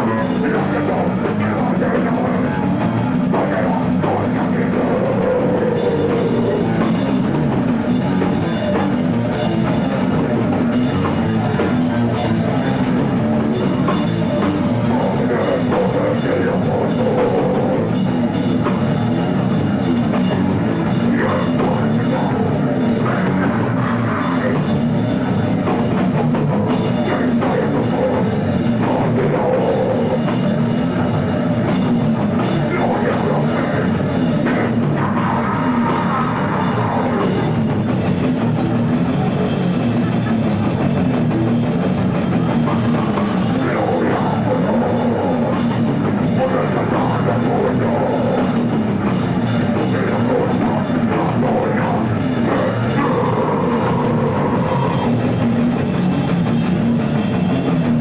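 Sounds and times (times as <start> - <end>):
drum kit: 0.0 - 58.0
rock band playing live: 0.0 - 58.0.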